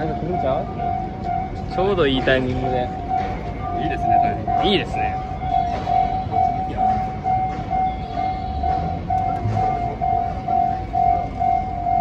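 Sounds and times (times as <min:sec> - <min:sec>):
electronic tone beeping: 0:00.0 - 0:12.0
train rumbling past: 0:00.0 - 0:12.0.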